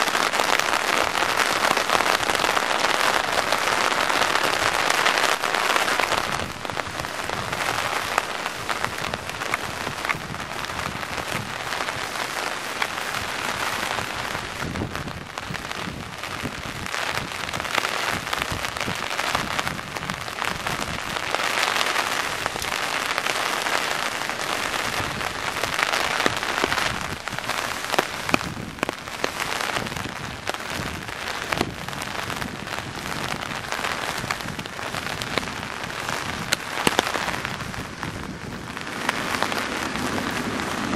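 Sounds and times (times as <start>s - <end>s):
raindrops pattering on umbrella: 0.0s - 40.9s
steady rain: 0.0s - 40.9s.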